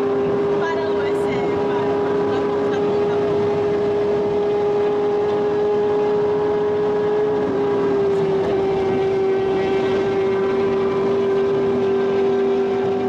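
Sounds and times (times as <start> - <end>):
car engine running hard: 0.0 - 13.0
wind and road noise: 0.0 - 13.0.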